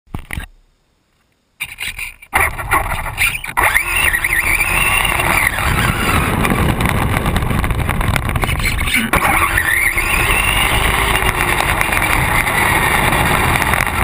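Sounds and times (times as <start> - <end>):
tyres rumbling on asphalt: 2.4 - 14.0
electric motor whining: 2.5 - 14.0.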